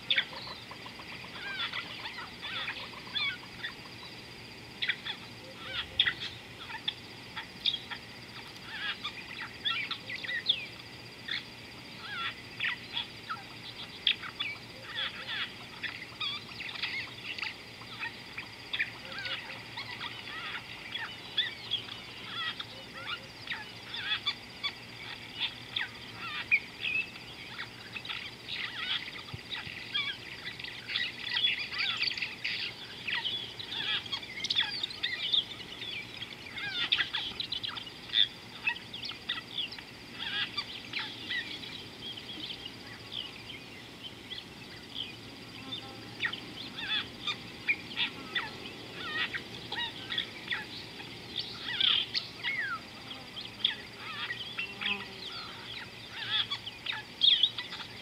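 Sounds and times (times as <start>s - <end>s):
many birds chirping: 0.0s - 58.0s.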